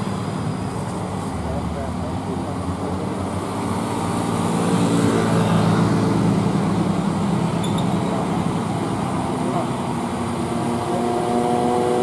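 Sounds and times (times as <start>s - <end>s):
truck diesel engine labouring: 0.0s - 12.0s.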